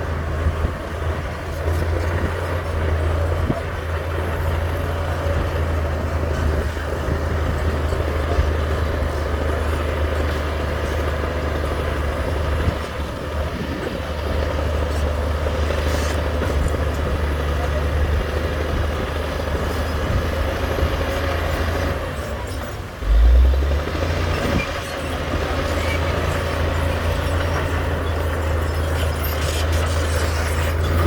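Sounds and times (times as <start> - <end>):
diesel earthmoving machinery drone: 0.0 - 31.0.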